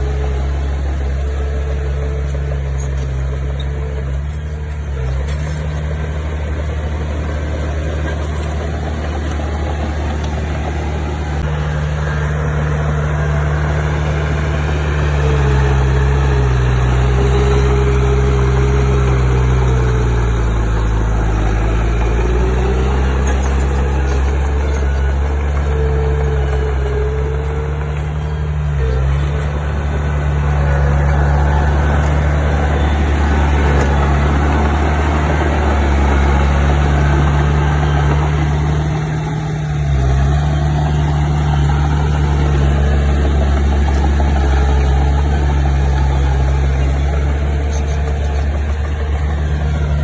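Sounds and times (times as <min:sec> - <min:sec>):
heavy machinery diesel engine running: 0:00.0 - 0:50.0.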